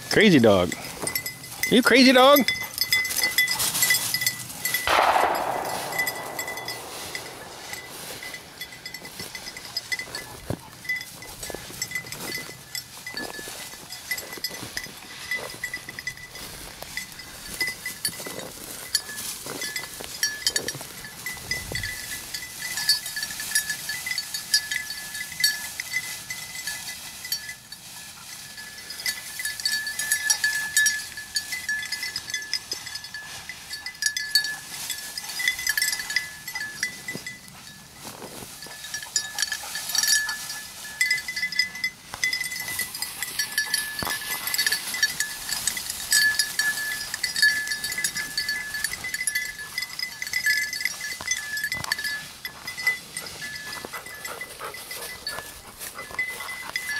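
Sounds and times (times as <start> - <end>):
small collar bell tinkling: 0.0 - 56.9.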